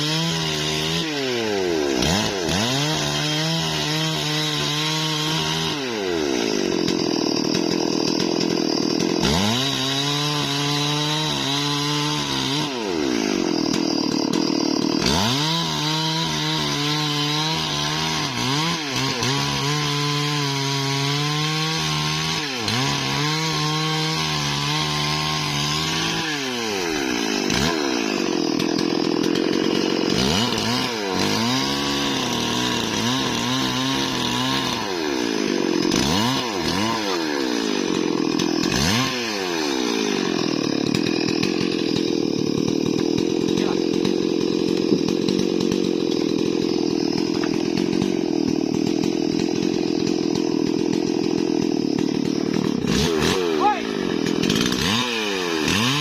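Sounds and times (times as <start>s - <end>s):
chainsaw cutting wood: 0.0s - 56.0s
chainsaw revving: 0.0s - 56.0s.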